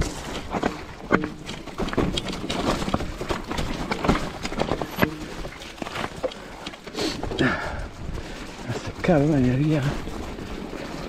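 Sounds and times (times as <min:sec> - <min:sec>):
bike knocks and rattles: 0:00.0 - 0:11.0
tyres clattering on stones: 0:00.0 - 0:11.0.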